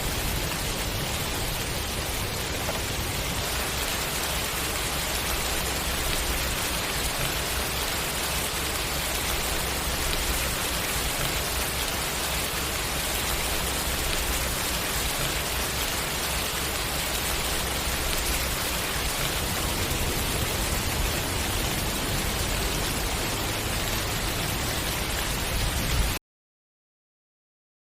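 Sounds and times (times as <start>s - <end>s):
heavy rain hissing: 0.0s - 26.2s.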